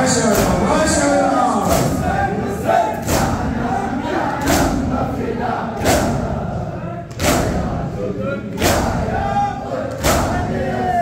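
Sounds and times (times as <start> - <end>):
men chanting: 0.0 - 11.0
crowd striking chests in unison: 0.2 - 11.0.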